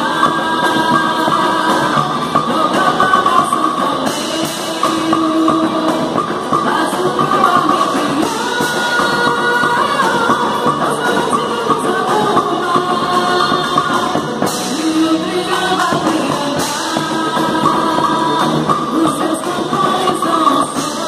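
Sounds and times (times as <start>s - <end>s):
band playing folk dance music: 0.0s - 21.0s
person singing: 0.0s - 21.0s.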